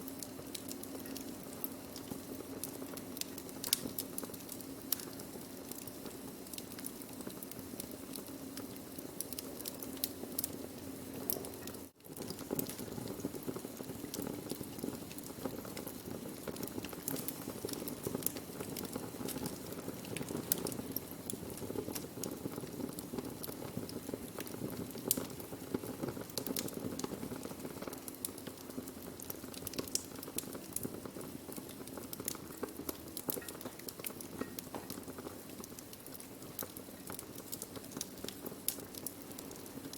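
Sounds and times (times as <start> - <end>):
burning wood crackling and popping: 0.0 - 39.9
low hiss of fire: 0.0 - 39.9.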